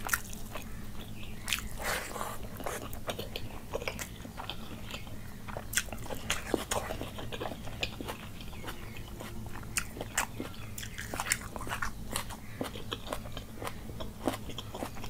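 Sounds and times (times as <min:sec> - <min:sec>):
close chewing: 0:00.0 - 0:15.0.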